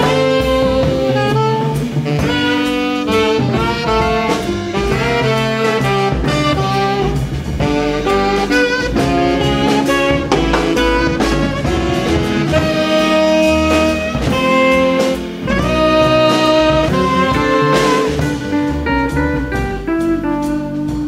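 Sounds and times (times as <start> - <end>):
jazz music with horns: 0.0 - 21.0
steady drum beat: 0.0 - 21.0.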